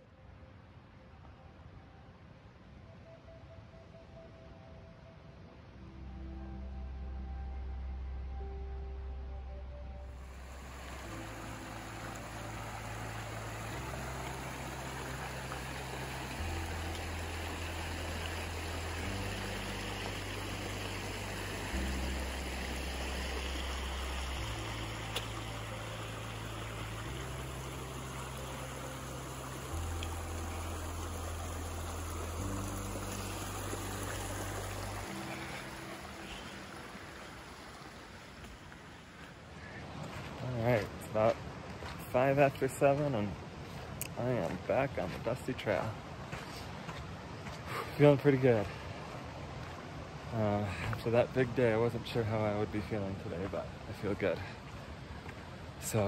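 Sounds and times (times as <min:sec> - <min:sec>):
slow low music chords: 0:00.0 - 0:56.0
creek rushing over rocks: 0:10.2 - 0:56.0.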